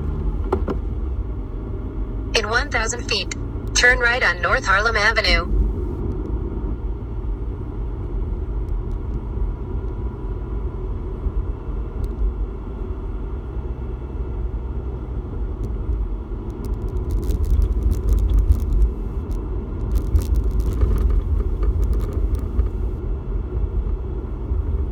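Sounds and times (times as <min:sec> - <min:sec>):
road and engine rumble: 0:00.0 - 0:24.9.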